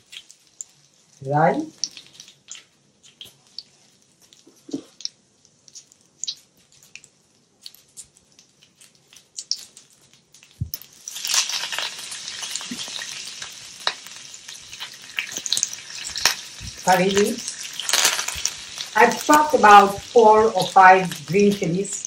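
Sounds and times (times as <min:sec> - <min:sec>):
leaves sizzling in oil: 0:00.0 - 0:22.0
seeds crackling in hot oil: 0:00.0 - 0:22.0.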